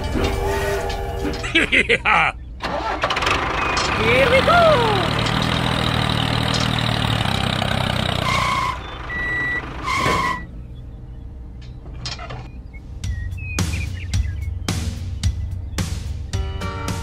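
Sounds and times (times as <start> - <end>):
vehicle engine running: 2.4 - 17.0.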